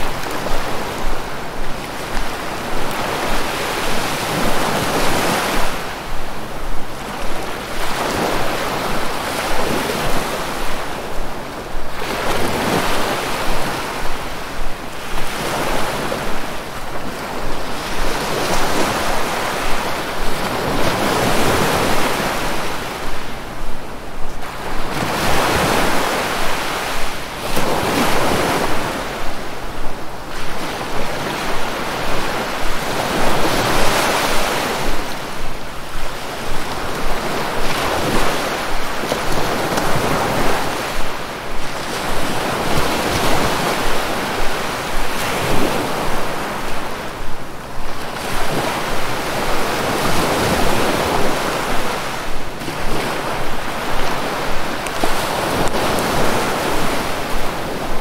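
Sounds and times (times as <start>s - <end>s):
sea waves surf: 0.0s - 58.0s.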